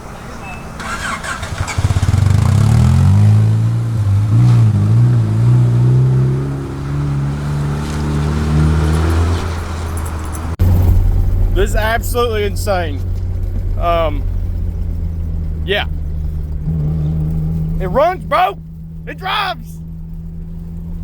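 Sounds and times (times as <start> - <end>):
car engine revving under load: 0.0 - 19.1.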